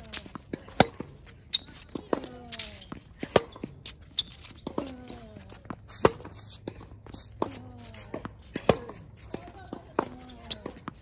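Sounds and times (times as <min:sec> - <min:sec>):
racket hitting tennis ball: 0:00.0 - 0:11.0
tennis ball bouncing on court: 0:00.0 - 0:11.0.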